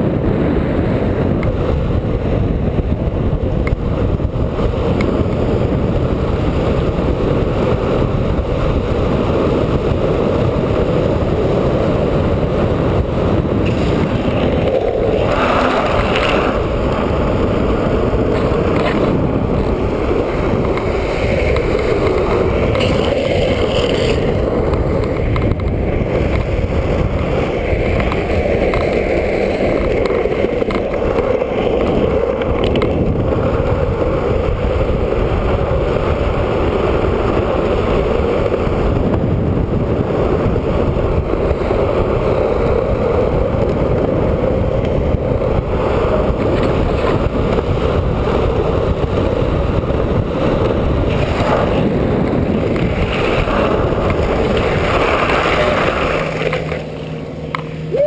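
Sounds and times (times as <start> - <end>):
wheels rumbling on rough asphalt: 0.0 - 58.0.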